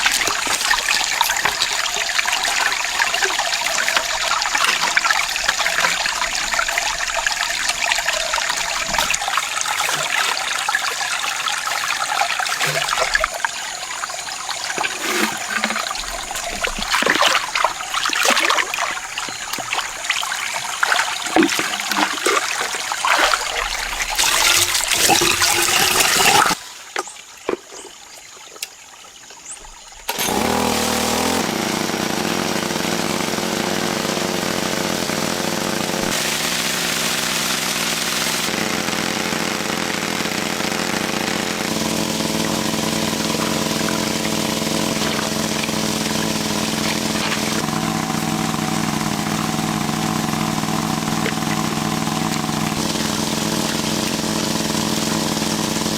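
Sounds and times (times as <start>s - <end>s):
small engine running: 0.0s - 26.6s, 30.1s - 55.9s
water splashing and sloshing: 0.0s - 30.5s, 41.6s - 55.9s.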